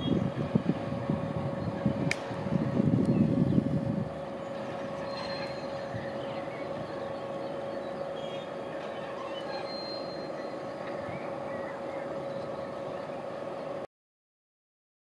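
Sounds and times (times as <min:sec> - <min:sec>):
diesel locomotive engine running: 0:00.0 - 0:13.9.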